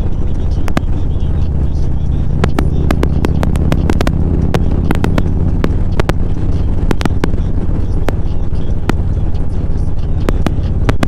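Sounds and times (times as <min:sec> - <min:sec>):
sharp clicks: 0:00.0 - 0:11.0
vehicle engine drone: 0:00.0 - 0:11.0.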